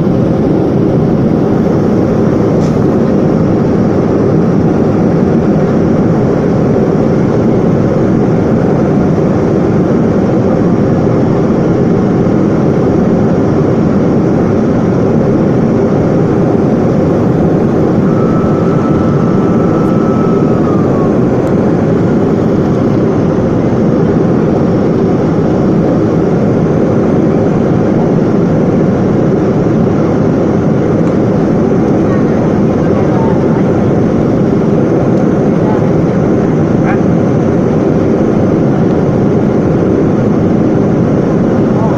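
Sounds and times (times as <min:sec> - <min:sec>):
airplane engines running: 0:00.0 - 0:41.9.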